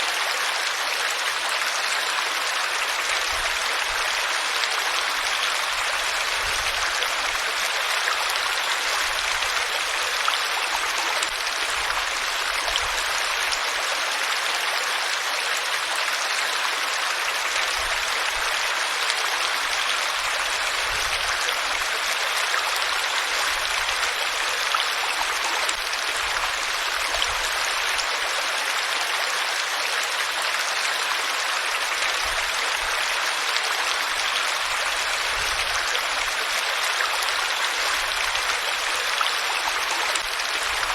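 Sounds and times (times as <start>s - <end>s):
water flowing steadily: 0.0s - 40.9s.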